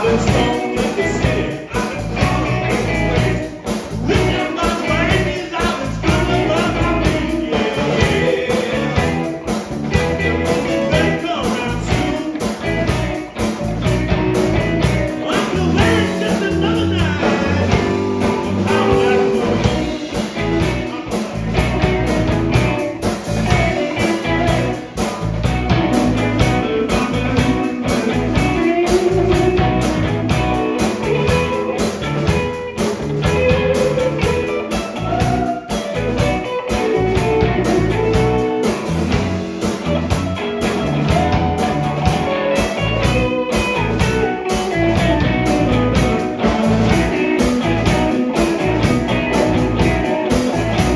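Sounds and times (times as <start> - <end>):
bass: 0.0 - 50.9
blues band playing: 0.0 - 50.9
guitar lines: 0.0 - 50.9
steady drum beat: 0.0 - 50.9.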